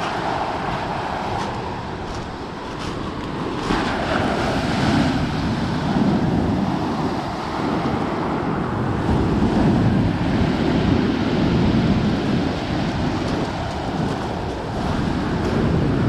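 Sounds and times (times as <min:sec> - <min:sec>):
waves crashing on pebble beach: 0:00.0 - 0:16.0.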